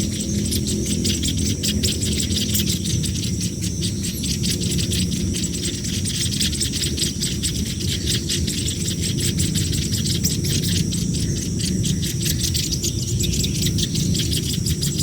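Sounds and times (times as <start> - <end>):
chicks begging chirps: 0.0 - 15.0
steady low rumble: 0.0 - 15.0.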